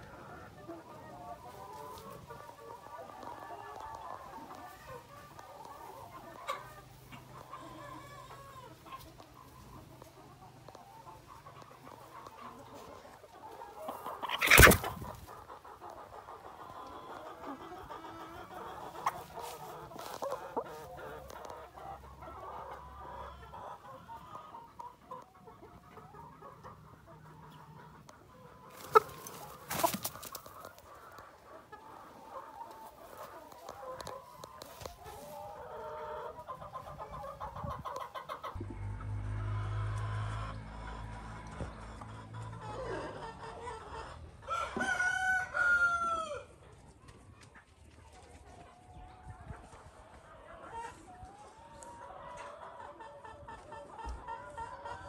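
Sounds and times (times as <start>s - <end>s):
hen clucking: 0.0s - 55.0s.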